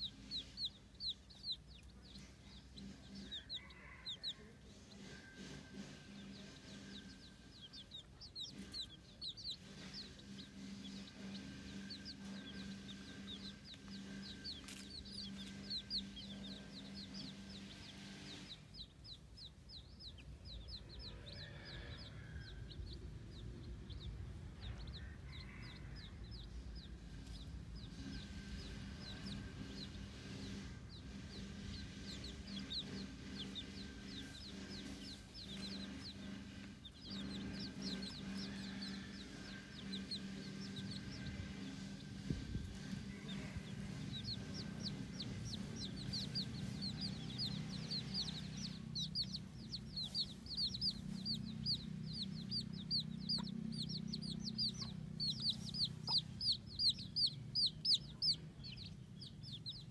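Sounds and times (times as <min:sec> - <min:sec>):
baby chicks peeping: 0:00.0 - 0:59.9
steady low hum: 0:00.0 - 0:59.9.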